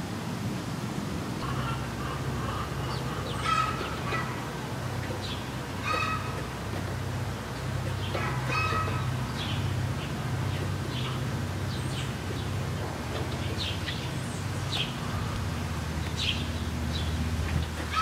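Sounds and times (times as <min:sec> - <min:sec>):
steady low hum: 0:00.0 - 0:18.0
birds chirping: 0:01.4 - 0:18.0.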